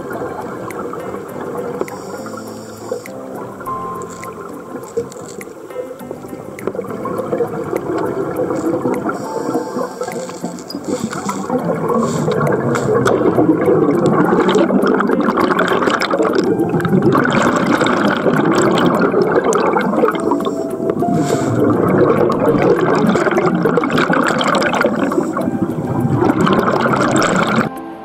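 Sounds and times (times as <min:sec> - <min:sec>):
water rushing: 0:00.0 - 0:27.8.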